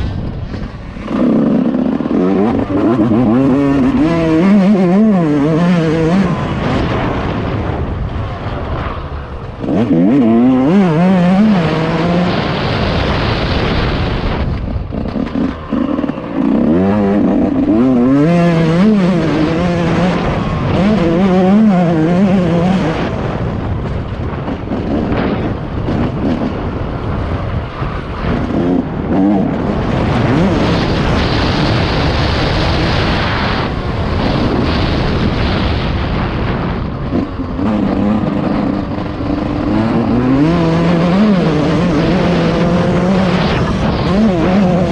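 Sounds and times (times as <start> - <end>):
two-stroke motorcycle engine revving: 0.0 - 44.9.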